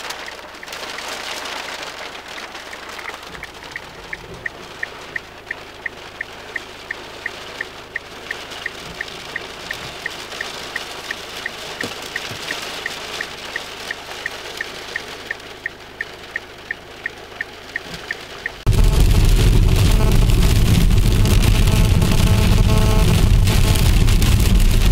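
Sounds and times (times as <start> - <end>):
rain pattering on a car: 0.0 - 24.9
steady high ticking: 2.7 - 24.0.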